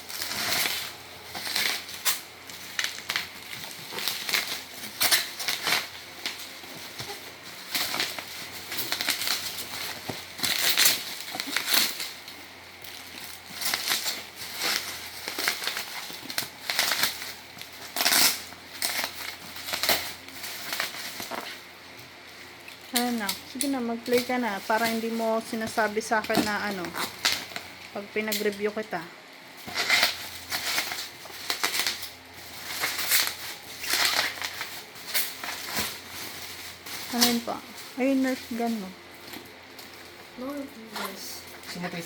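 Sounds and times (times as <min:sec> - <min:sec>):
packaging crinkling and rustling: 0:00.0 - 0:42.0.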